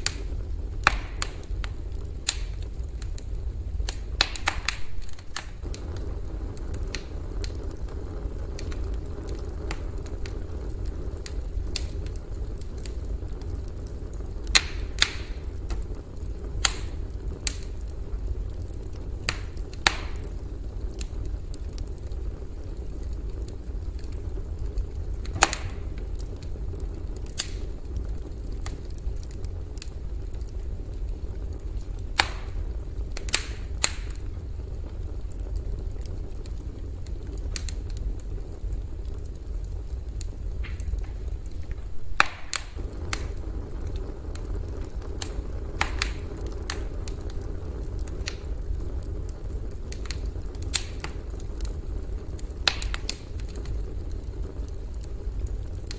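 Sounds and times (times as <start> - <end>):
campfire rumbling: 0.0 - 55.9
fire crackling and popping: 0.0 - 55.9.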